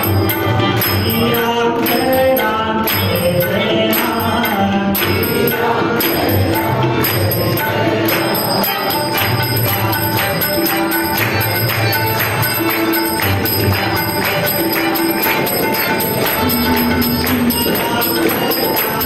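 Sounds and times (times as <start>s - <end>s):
harmonium: 0.0s - 19.0s
tabla beat: 0.0s - 19.0s
man singing: 1.0s - 11.7s, 13.8s - 19.0s.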